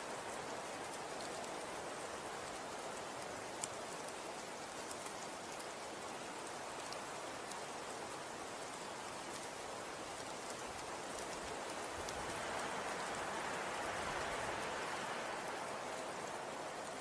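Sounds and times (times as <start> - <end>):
snow falling soft pattering hiss: 0.0 - 17.0.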